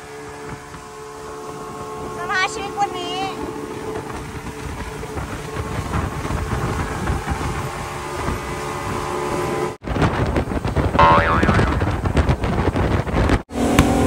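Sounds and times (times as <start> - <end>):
outboard motor running: 0.0 - 14.0
wind buffeting microphone: 0.0 - 14.0.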